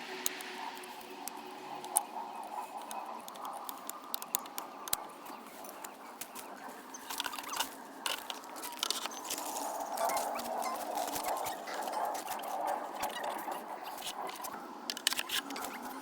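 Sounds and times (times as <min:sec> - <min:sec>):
outdoor background: 0:00.0 - 0:16.0
plastic parts clicking and scraping: 0:02.8 - 0:16.0.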